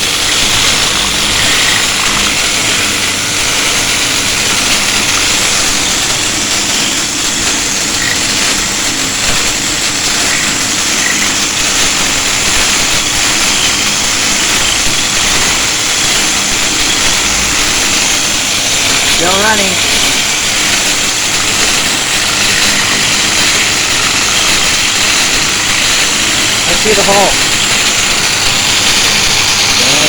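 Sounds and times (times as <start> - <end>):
angle grinder running: 0.0 - 30.0.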